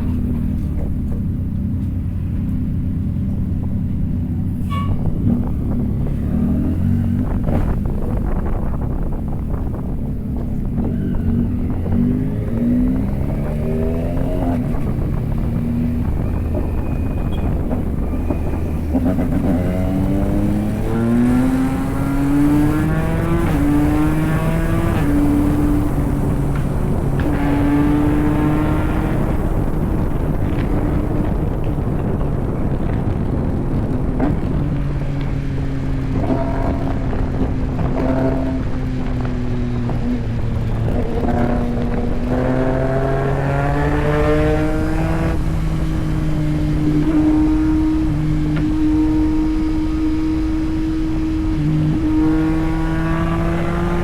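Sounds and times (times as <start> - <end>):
motorcycle engine accelerating: 0.0 - 54.0
wind rushing: 4.4 - 54.0.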